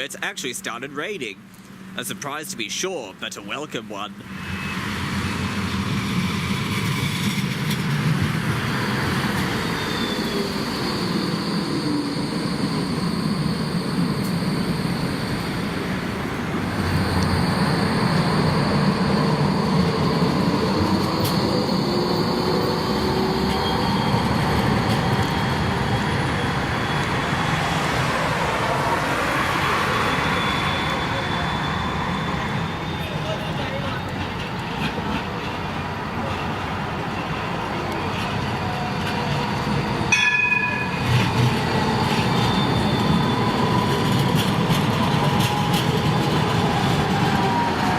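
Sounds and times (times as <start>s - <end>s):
tram wheels rumbling: 4.2s - 47.9s.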